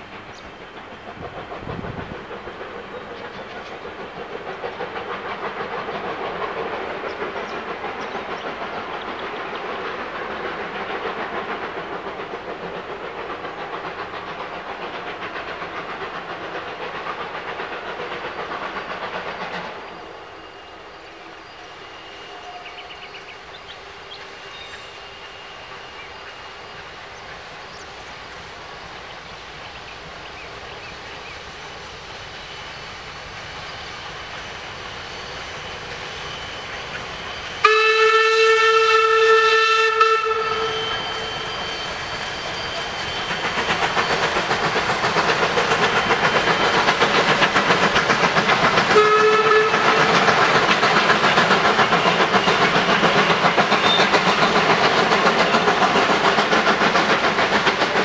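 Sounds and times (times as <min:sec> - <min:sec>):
steam locomotive passing: 0:00.0 - 0:58.0.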